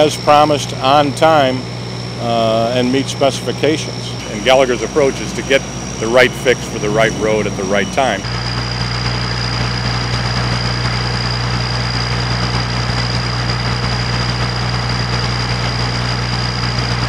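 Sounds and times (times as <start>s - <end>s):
heavy engines droning: 0.0s - 17.0s
high whine: 0.0s - 17.0s.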